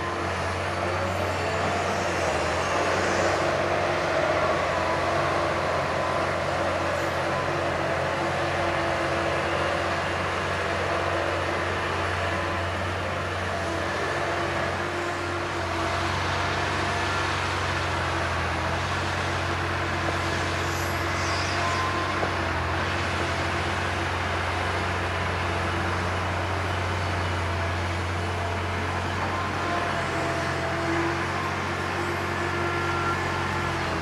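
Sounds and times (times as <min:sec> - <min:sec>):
dump truck engine running: 0:00.0 - 0:21.2, 0:21.8 - 0:34.0
excavator diesel engine running: 0:00.0 - 0:34.0.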